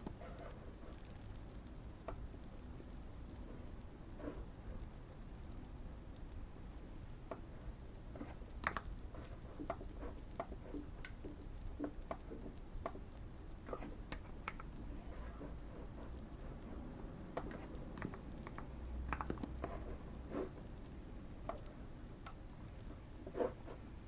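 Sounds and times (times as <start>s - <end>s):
soft fireplace crackle: 0.0s - 24.0s.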